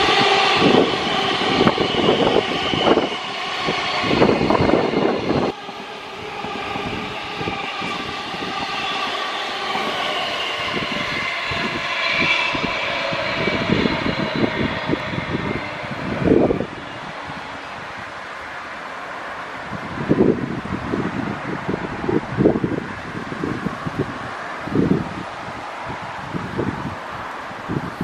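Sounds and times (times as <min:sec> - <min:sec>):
train high whine: 0:00.0 - 0:28.0.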